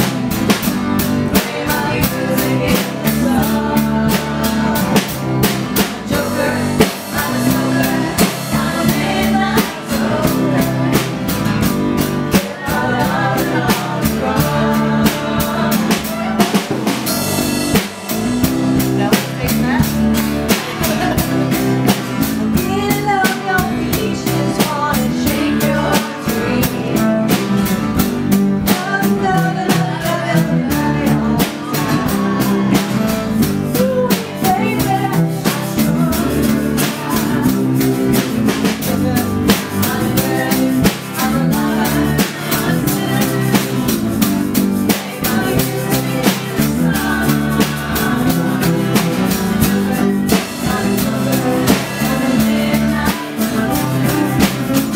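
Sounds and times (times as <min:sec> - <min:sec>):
drum kit beat: 0:00.0 - 0:54.9
strummed acoustic guitars: 0:00.0 - 0:54.9
woman singing: 0:00.6 - 0:54.9.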